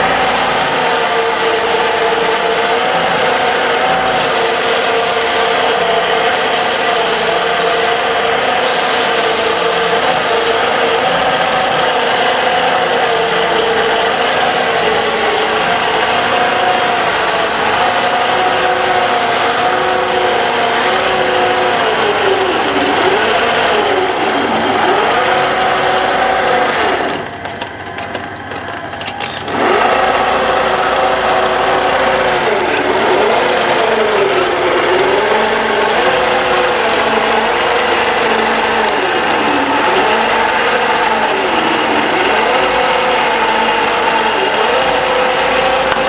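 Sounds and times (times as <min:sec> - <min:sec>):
lathe motor hum: 0:00.0 - 0:46.0
turning tool cutting wood: 0:00.0 - 0:46.0.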